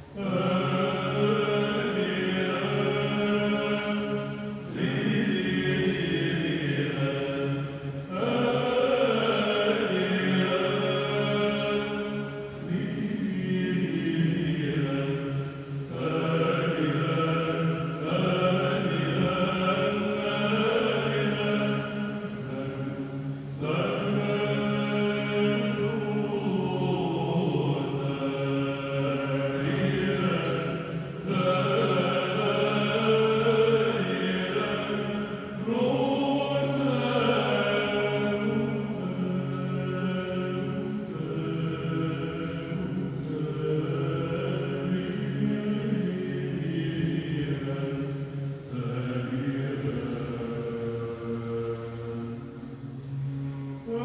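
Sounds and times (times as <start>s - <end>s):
choir chanting melismatic melody: 0.0s - 54.0s
held low vocal drone: 0.0s - 54.0s.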